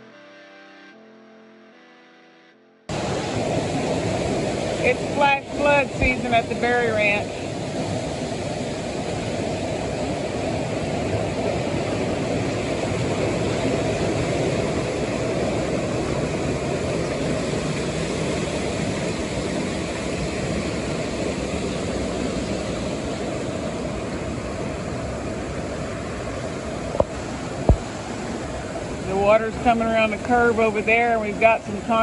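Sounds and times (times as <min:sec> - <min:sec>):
floodwater rushing: 0:02.6 - 0:32.0.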